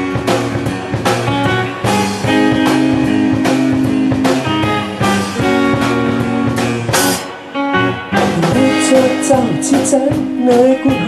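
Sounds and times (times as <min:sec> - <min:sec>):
guitar chords strummed: 0:00.0 - 0:11.0
live band playing: 0:00.0 - 0:11.0.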